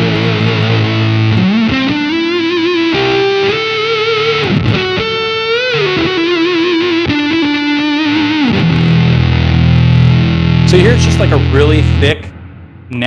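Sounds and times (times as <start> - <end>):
fuzzy synth electric guitar: 0.0 - 13.0.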